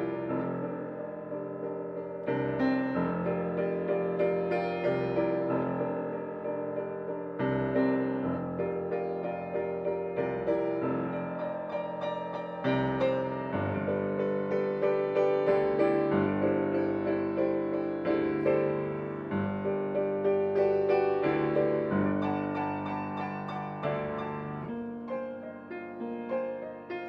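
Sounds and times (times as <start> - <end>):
solo piano: 0.0 - 27.0.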